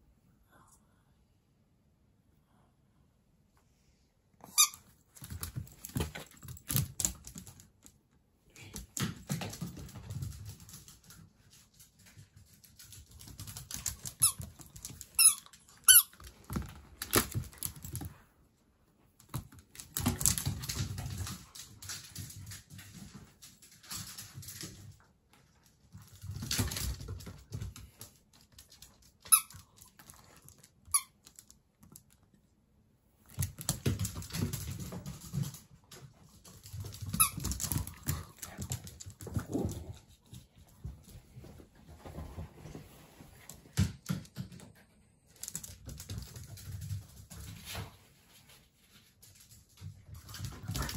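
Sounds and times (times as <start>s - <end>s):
puppy paws clicking on wooden floor: 4.6s - 18.4s, 19.0s - 32.5s, 33.2s - 50.9s.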